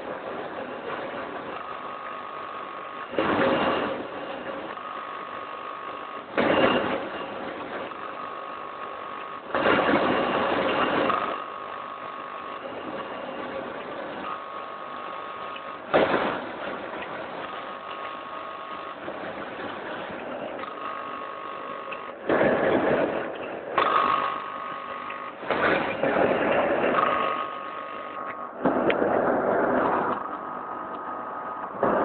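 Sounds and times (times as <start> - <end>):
loud noisy machine bursts: 0.0 - 32.0
machine whine: 0.0 - 32.0
packing machine hum: 0.0 - 32.0.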